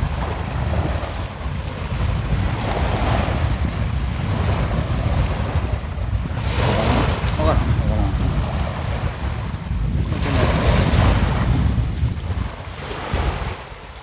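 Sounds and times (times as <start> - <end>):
small waves washing onto a beach: 0.0 - 14.0
wind rumble on the microphone: 0.0 - 14.0.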